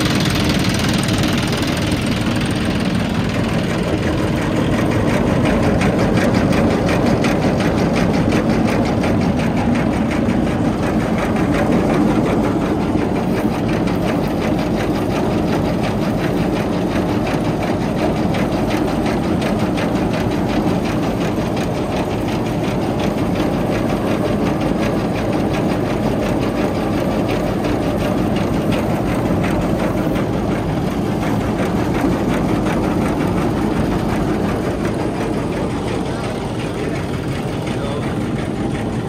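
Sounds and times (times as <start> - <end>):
reaper machine chatter: 0.0 - 39.0
tractor engine running: 0.0 - 39.0.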